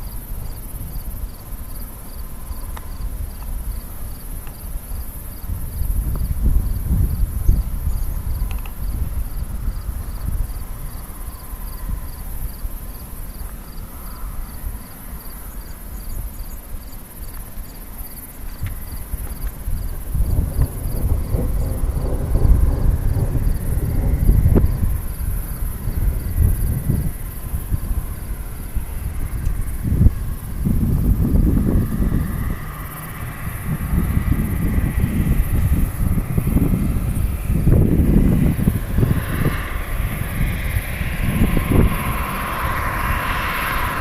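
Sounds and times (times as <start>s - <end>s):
gusty wind on microphone: 0.0s - 44.0s
insect chirping rapidly: 0.0s - 44.0s.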